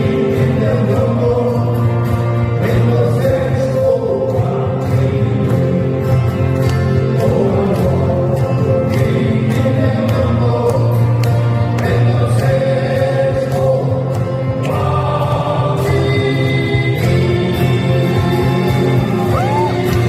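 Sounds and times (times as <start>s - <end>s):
acoustic guitars: 0.0s - 20.0s
voices singing together: 0.0s - 20.0s.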